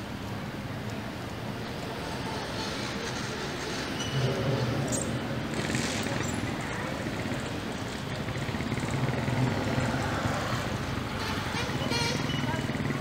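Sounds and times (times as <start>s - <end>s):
outdoor background noise: 0.0s - 13.0s
vehicle engine humming: 0.0s - 13.0s.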